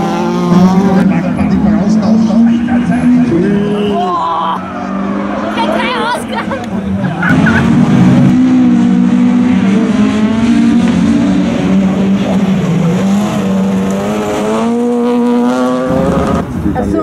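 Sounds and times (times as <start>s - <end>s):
race car engines at high revs: 0.0s - 17.0s.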